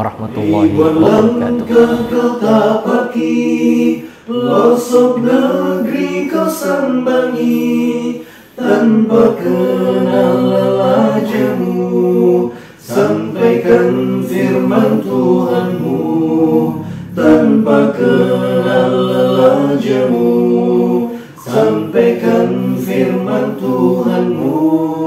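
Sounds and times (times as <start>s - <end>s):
vocal group singing in harmony: 0.0s - 25.0s.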